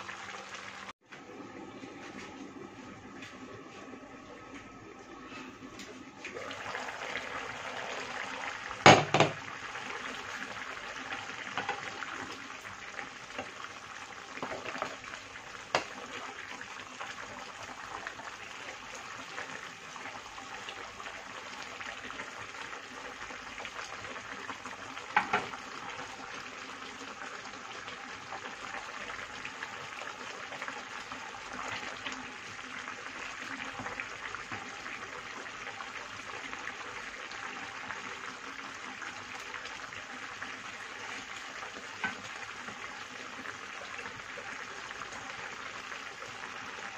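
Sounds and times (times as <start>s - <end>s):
food sizzling in frying pan: 6.3s - 46.9s.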